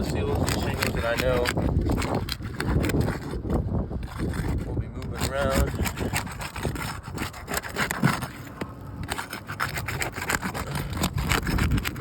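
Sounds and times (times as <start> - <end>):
roof shingles tearing apart: 0.0 - 12.0.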